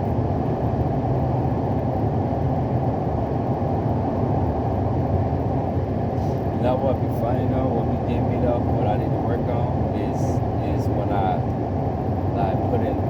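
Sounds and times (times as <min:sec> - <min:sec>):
vehicle cabin road and engine rumble: 0:00.0 - 0:13.0.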